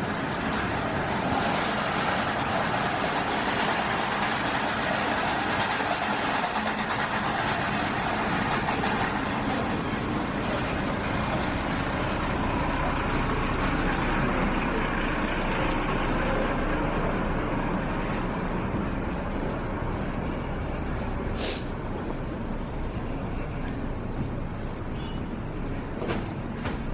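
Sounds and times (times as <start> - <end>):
city street traffic: 0.0 - 26.9.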